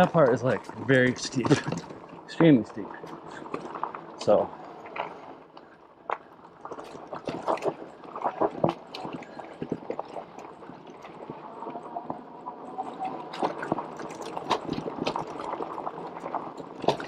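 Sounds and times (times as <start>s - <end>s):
bike rattling over rough trail: 0.0s - 17.0s.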